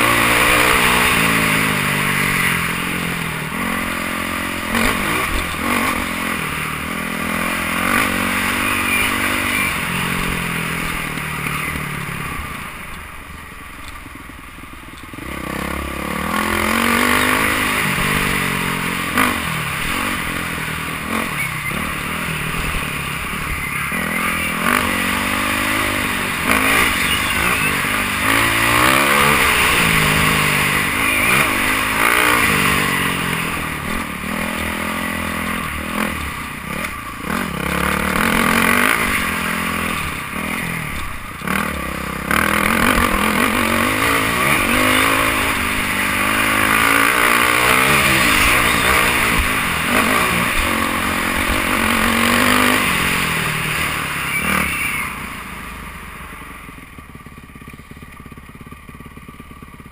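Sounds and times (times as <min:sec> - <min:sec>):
dirt bike engine revving: 0:00.0 - 0:13.5, 0:15.1 - 0:57.5.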